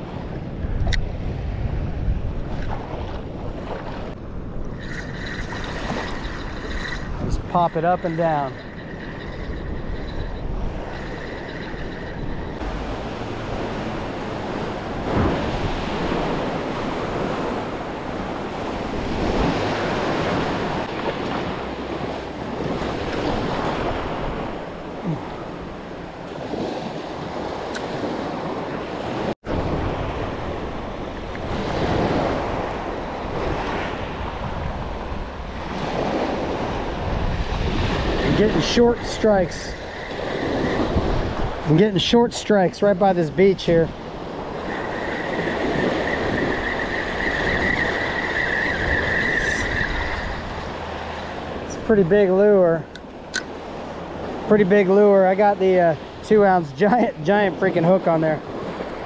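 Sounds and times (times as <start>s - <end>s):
wind buffeting microphone: 0.0s - 59.0s
small waves breaking on sand: 2.4s - 59.0s.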